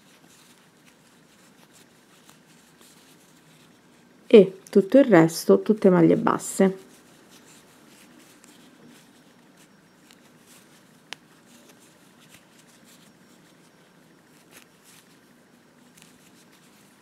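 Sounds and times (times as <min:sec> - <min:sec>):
yarn rustling with crochet hook: 0:00.0 - 0:17.0.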